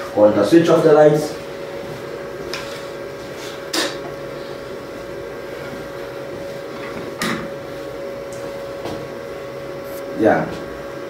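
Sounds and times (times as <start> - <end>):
laboratory equipment humming: 0.0 - 11.0.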